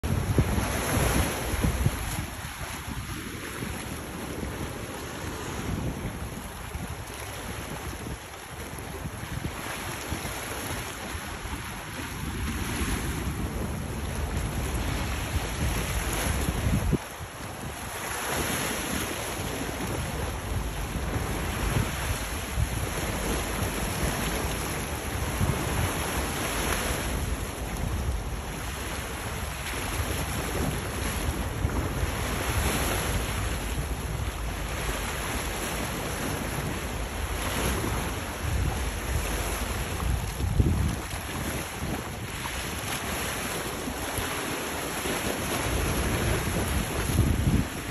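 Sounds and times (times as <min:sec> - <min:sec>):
choppy sea water rushing: 0:00.0 - 0:47.9
wind buffeting microphone: 0:00.0 - 0:47.9.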